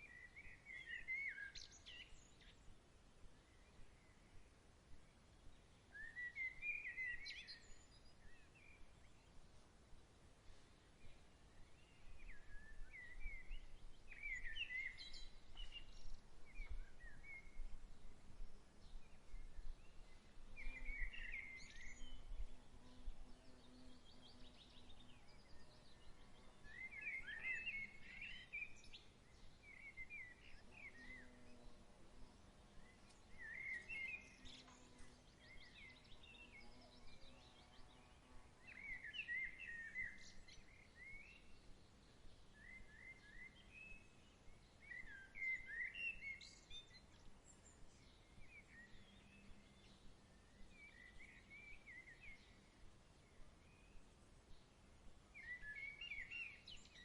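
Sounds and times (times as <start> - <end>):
songbird singing warbled phrases: 0.0 - 2.6, 5.9 - 9.3, 11.7 - 17.6, 18.4 - 52.8, 55.4 - 57.0.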